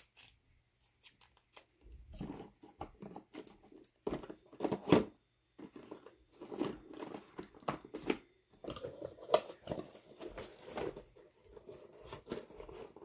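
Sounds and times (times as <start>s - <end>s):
packaging rustling and crinkling: 1.2s - 13.0s.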